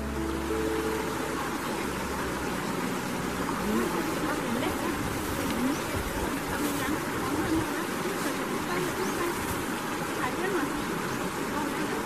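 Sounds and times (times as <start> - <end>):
steady rushing noise: 0.0 - 10.7
people walking and talking: 0.0 - 12.0.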